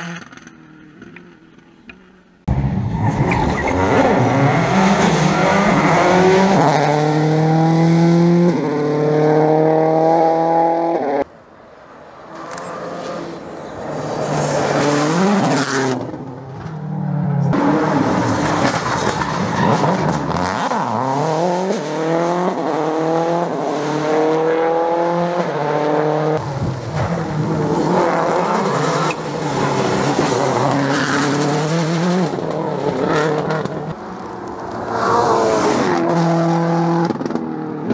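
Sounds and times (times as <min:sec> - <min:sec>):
rally car engines revving hard: 0:02.5 - 0:11.2, 0:12.7 - 0:16.7, 0:17.4 - 0:37.9.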